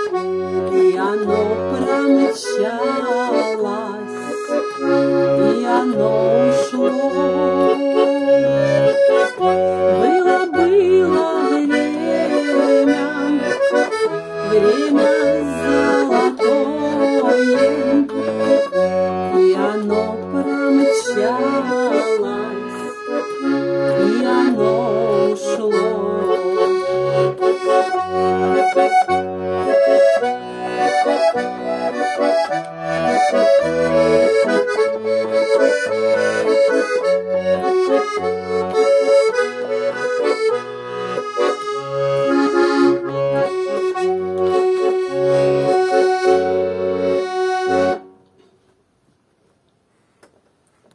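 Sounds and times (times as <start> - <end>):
button accordion playing lively tune: 0.0 - 48.2.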